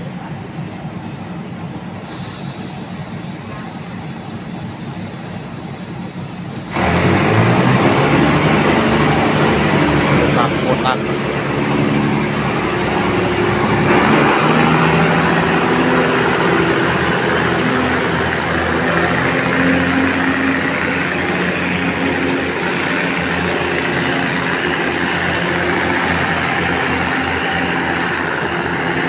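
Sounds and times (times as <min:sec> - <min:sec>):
train engine drone: 0:00.0 - 0:29.0
train rumbling: 0:00.0 - 0:29.0.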